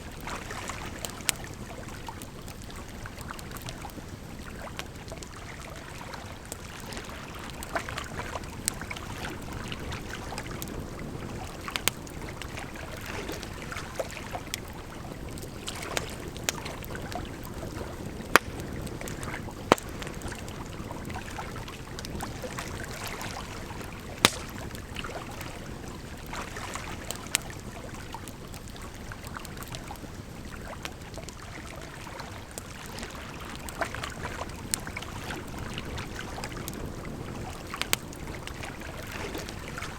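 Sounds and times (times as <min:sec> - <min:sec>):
campfire crackling and popping: 0:00.0 - 0:39.9
flowing water: 0:00.0 - 0:39.9.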